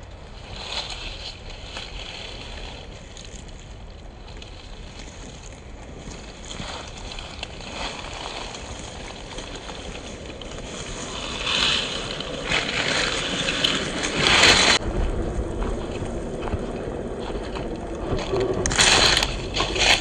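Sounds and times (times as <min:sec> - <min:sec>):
rc car tyres churning ground: 0:00.0 - 0:20.0.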